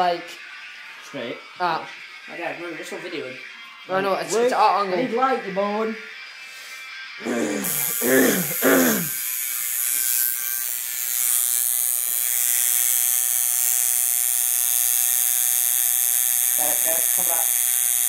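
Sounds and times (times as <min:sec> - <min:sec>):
tattoo machine buzzing: 0:00.4 - 0:18.0.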